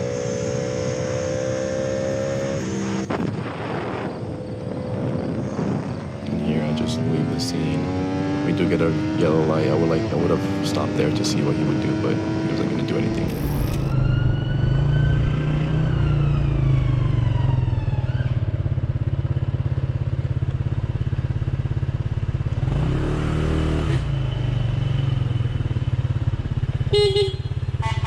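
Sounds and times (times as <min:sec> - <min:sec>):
motorcycle engine on road: 0:00.0 - 0:28.0.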